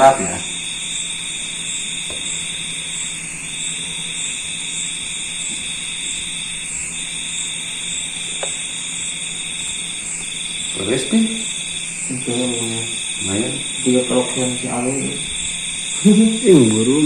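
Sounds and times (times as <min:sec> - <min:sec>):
faint high pulsing: 0:00.0 - 0:17.0
high-pitched whine: 0:00.0 - 0:17.0
low steady hum: 0:00.0 - 0:17.0.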